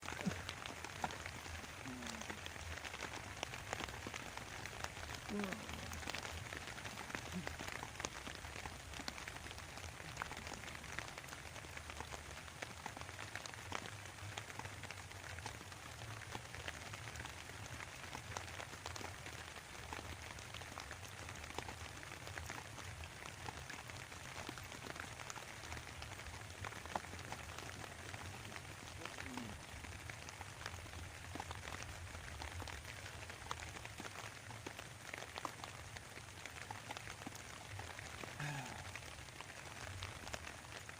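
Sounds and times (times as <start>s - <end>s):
rain falling: 0.0s - 40.9s
raindrops tapping: 0.0s - 40.9s.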